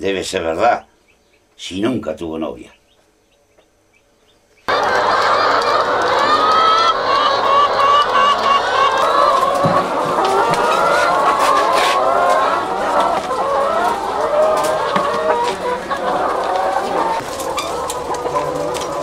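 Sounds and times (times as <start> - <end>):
hens clucking: 1.6 - 19.0.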